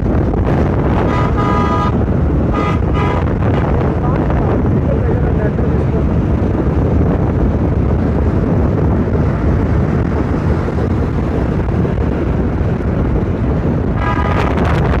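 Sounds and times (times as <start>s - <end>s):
car road noise rumble: 0.0s - 15.0s
wind buffeting microphone: 0.0s - 15.0s.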